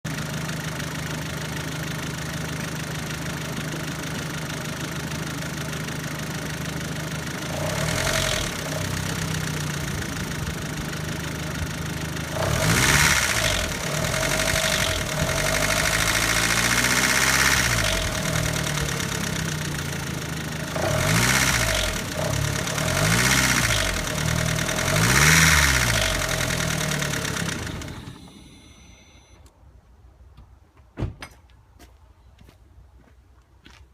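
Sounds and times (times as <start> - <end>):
car engine idling and revving: 0.1 - 29.4
engine ticking: 0.1 - 29.4.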